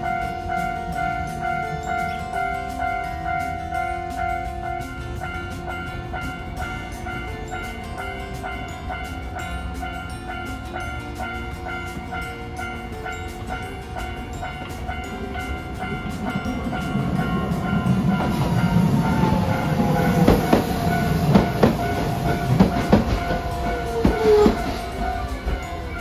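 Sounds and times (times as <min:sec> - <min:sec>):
level-crossing bell dinging: 0:00.0 - 0:26.0
tram brake whine: 0:00.0 - 0:26.0
tram running gear rumble: 0:00.0 - 0:26.0
wheels clacking over rail joints: 0:00.0 - 0:26.0.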